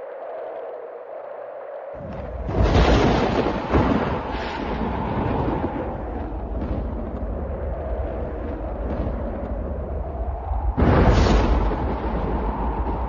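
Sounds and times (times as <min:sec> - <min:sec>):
thunder rumbling: 0:02.0 - 0:13.0
thunderclap: 0:02.0 - 0:13.0.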